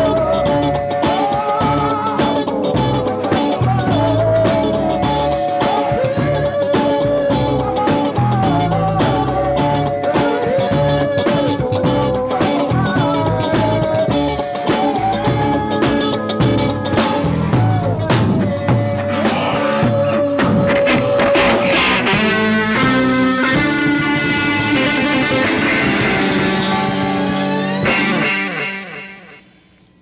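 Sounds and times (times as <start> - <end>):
band playing world-beat groove: 0.0 - 29.6.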